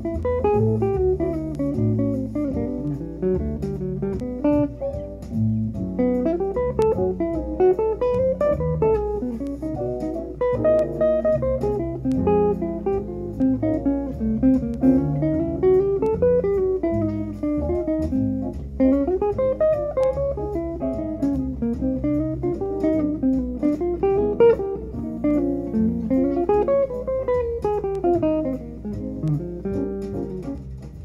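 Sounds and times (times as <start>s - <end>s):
electric jazz guitar melody: 0.0s - 31.0s.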